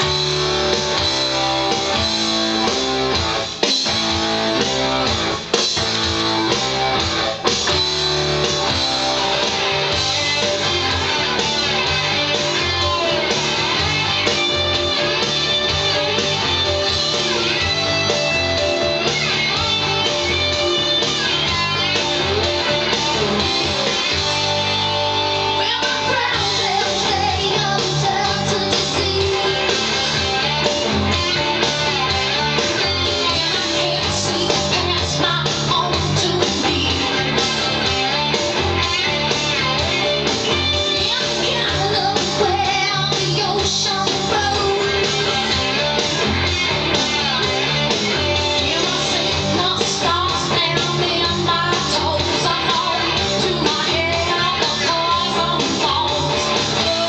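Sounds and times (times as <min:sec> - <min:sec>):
guitar song with singing: 0:00.0 - 0:57.0.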